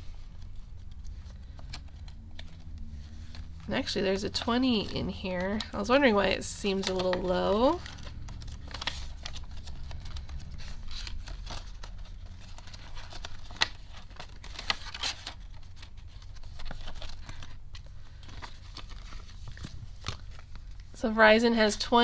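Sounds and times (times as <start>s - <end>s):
paper and plastic crinkling: 0.0s - 22.0s.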